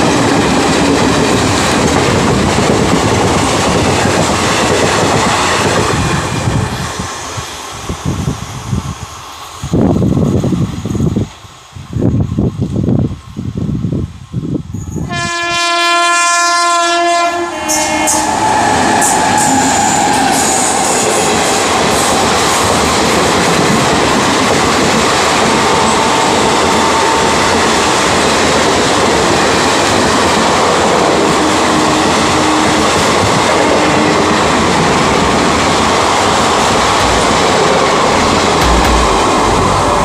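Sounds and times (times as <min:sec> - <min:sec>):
train passing on rails: 0:00.0 - 0:40.0.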